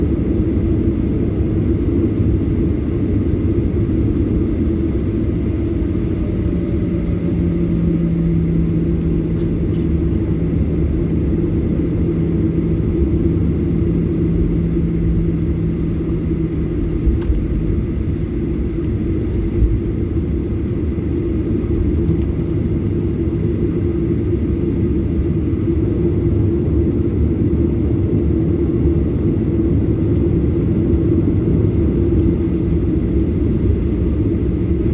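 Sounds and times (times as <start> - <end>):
hum: 0.0 - 27.5, 29.8 - 34.9
aircraft engines rumbling in cabin: 0.0 - 34.9.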